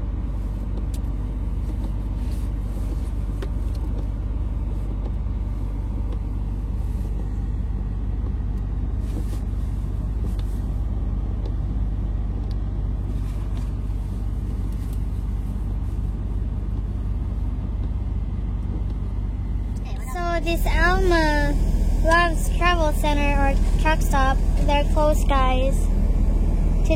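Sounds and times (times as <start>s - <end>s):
truck engine rumbling: 0.0s - 26.9s.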